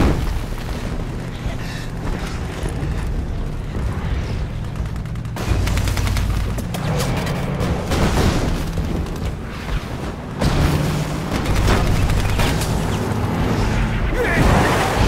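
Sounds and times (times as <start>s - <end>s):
explosions: 0.0s - 15.0s
gunshots: 0.0s - 15.0s.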